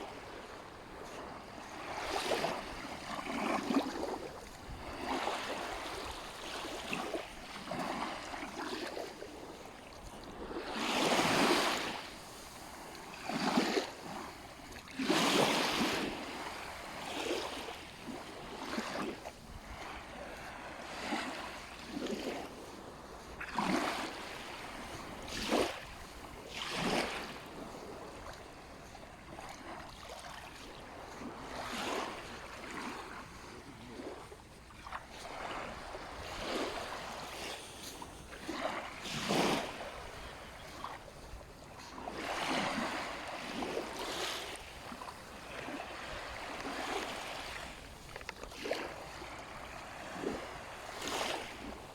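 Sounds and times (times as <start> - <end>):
waves washing on sandy beach: 0.0 - 51.9.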